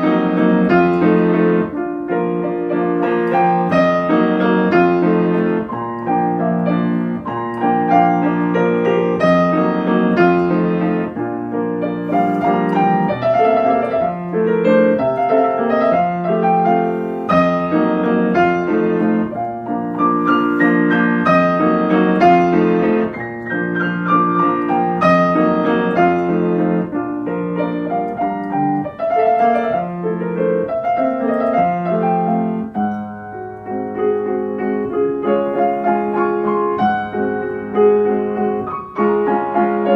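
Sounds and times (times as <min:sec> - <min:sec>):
solo piano waltz: 0:00.0 - 0:39.9.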